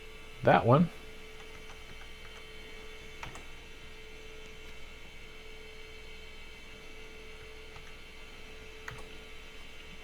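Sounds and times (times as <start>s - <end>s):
computer electrical hum: 0.0s - 10.0s.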